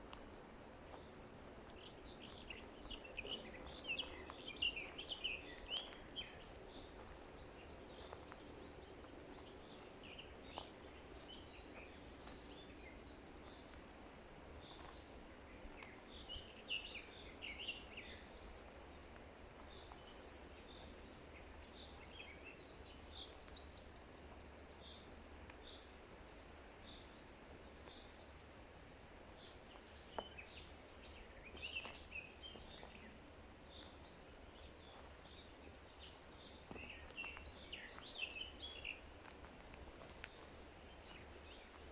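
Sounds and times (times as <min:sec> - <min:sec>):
songbirds chirping and singing: 0:01.7 - 0:13.9, 0:14.6 - 0:41.9.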